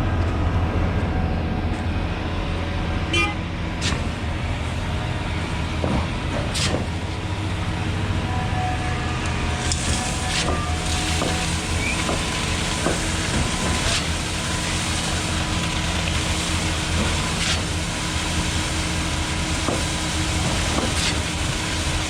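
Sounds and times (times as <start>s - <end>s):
diesel engine drone: 0.0s - 22.0s.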